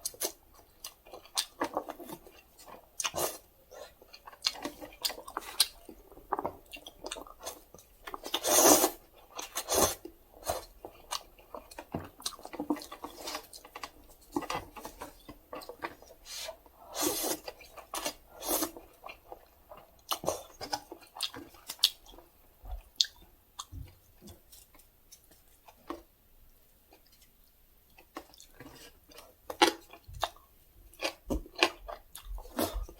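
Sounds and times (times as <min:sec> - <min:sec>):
person chewing noodles: 0:00.0 - 0:26.1, 0:26.9 - 0:32.9.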